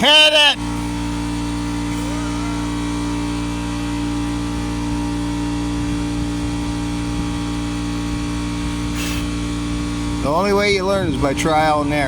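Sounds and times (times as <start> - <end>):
mechanical hum droning: 0.0 - 12.0.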